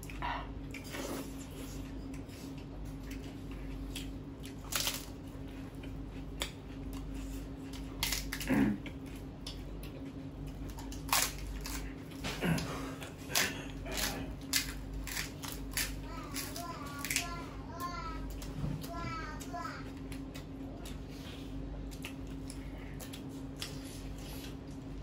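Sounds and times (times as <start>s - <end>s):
person chewing and biting food: 0.0s - 17.3s, 19.9s - 25.0s.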